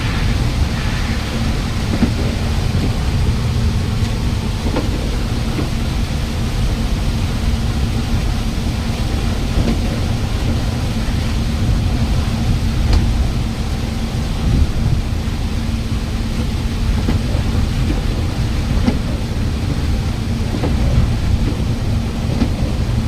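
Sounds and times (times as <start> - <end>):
bus engine and tyres rumbling: 0.0 - 23.0
rain hissing: 0.0 - 23.0.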